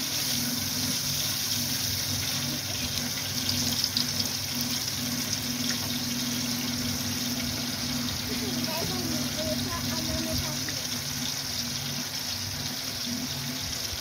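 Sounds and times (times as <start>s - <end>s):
dough sizzling in hot oil: 0.0s - 14.0s
low steady hum: 0.0s - 14.0s.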